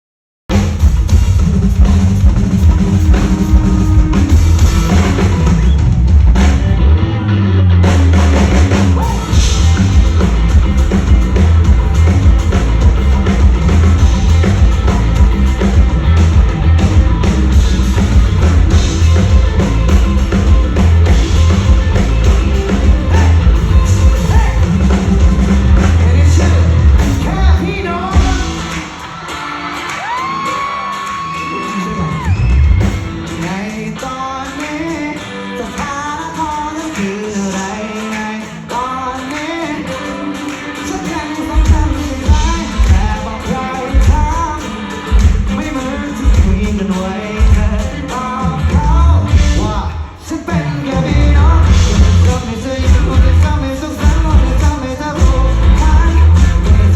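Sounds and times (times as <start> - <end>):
drum kit beat: 0.5 - 7.0, 7.8 - 56.9
bass guitar: 0.5 - 36.2, 38.7 - 56.9
rock band playing live: 0.5 - 56.9
person singing: 8.2 - 56.9.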